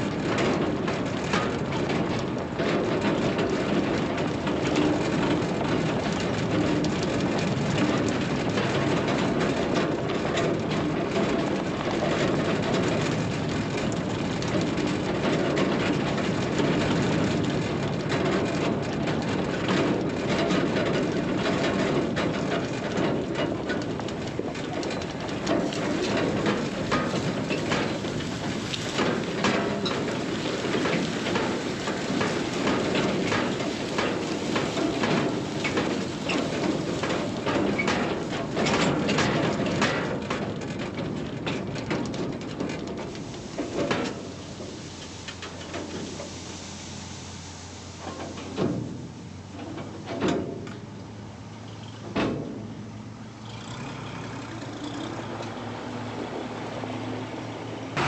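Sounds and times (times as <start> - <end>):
harvest machinery rattling: 0.0 - 58.0.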